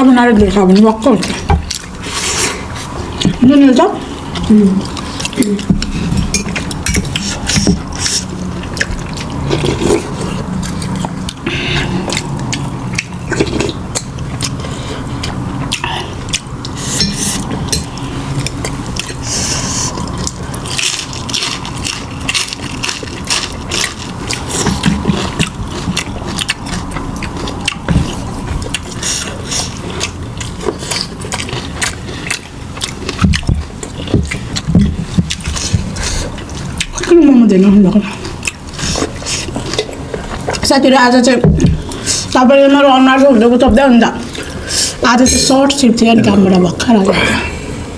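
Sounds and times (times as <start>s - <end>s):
steady low hum: 0.0s - 47.9s
chewing and biting food: 0.1s - 3.4s, 4.0s - 45.9s.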